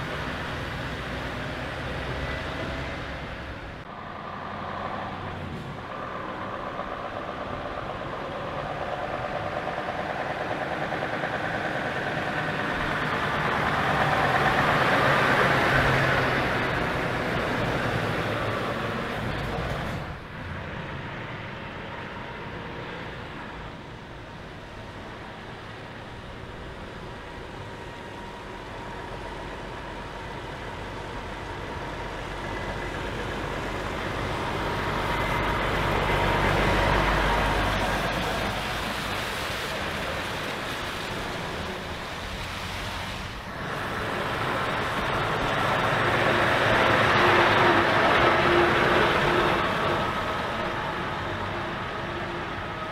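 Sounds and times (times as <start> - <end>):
heavy truck diesel engines: 0.0 - 52.9.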